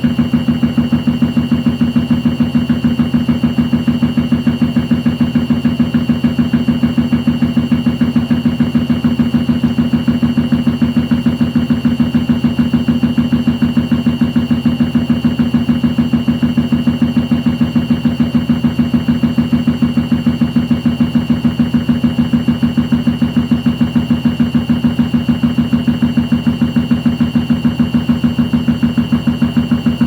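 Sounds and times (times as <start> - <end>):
washing machine humming: 0.0 - 30.0.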